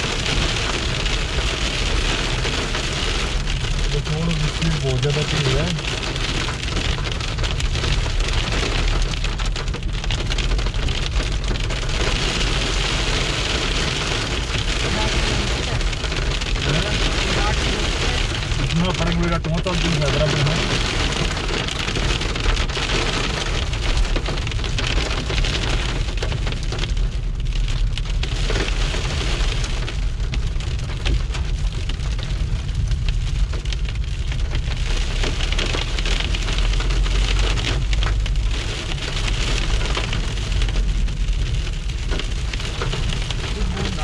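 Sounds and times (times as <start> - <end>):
car engine and road drone: 0.0 - 44.0
hail pattering on car: 0.0 - 44.0.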